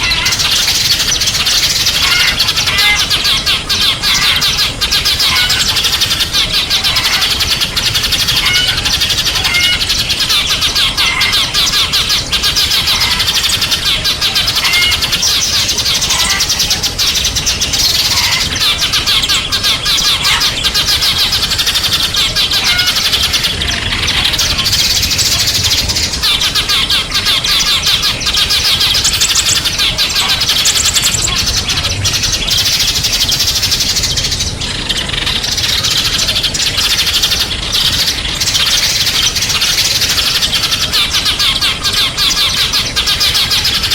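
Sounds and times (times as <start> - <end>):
songbirds chirping: 0.0 - 43.9.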